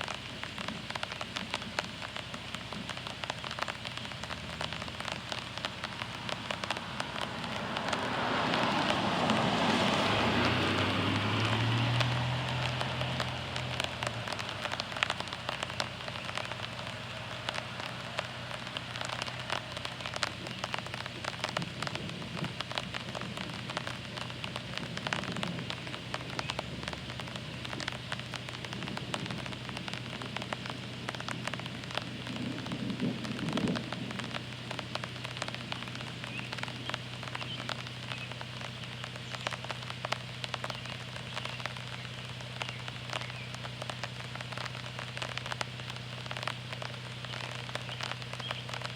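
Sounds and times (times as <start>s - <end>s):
steady rain: 0.0s - 48.9s.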